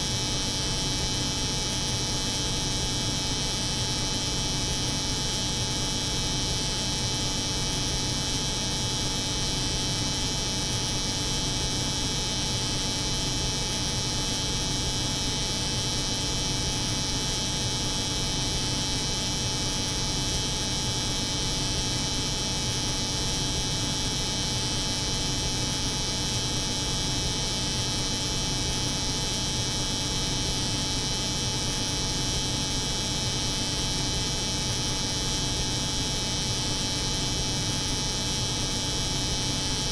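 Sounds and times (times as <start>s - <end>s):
refrigeration unit hum: 0.0s - 39.9s.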